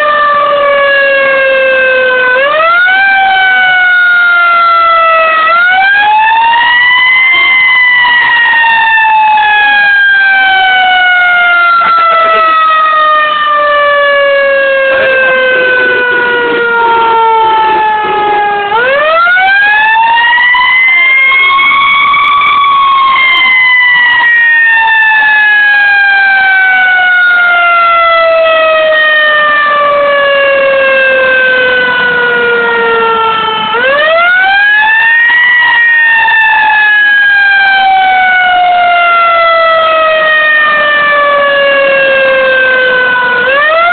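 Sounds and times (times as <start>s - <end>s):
fire engine siren wailing: 0.0s - 43.9s.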